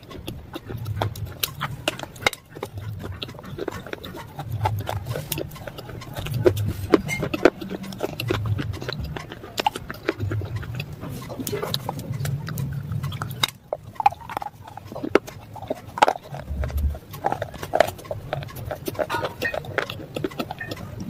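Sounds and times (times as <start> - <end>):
chewing crunches and clicks: 0.0 - 21.0
wet mouth noises: 0.0 - 21.0.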